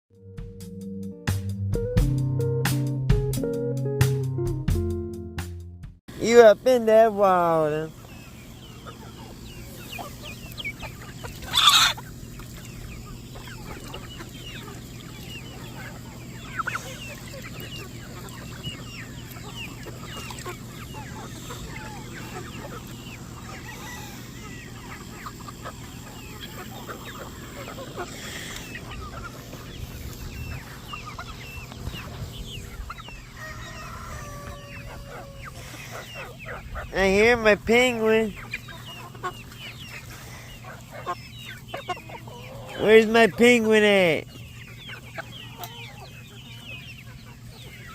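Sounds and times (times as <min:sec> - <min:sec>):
chickens clucking and chirping: 0:06.1 - 0:47.9.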